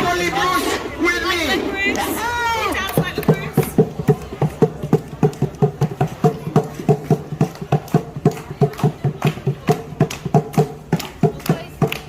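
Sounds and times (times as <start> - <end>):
hand drum marching rhythm: 1.8 - 12.0.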